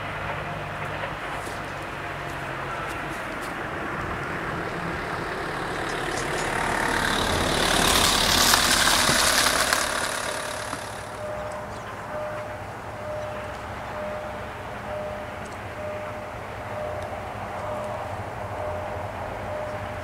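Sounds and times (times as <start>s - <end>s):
diesel train running past: 0.0s - 20.0s.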